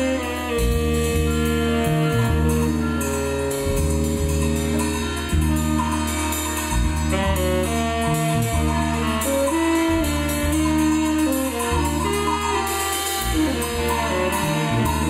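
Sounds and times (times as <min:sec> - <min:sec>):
drums and cymbals: 0:00.0 - 0:15.0
low bass drone: 0:00.0 - 0:15.0
saxophone: 0:00.0 - 0:15.0.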